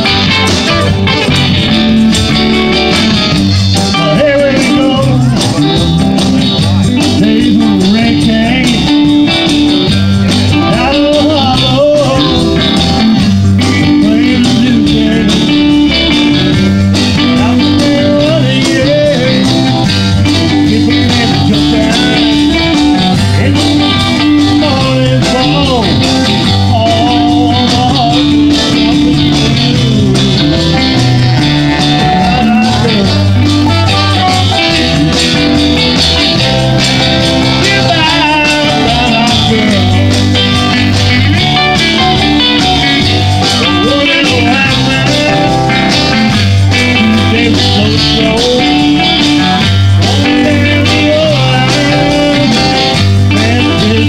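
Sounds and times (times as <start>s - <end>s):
drums: 0.0s - 54.0s
electric guitars: 0.0s - 54.0s
keyboards: 0.0s - 54.0s
repeating bass line: 0.0s - 54.0s.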